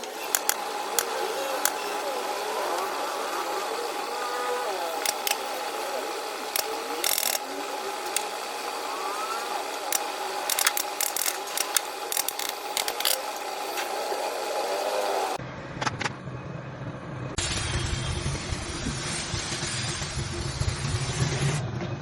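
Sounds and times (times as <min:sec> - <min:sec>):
steady background hum: 0:00.0 - 0:20.9.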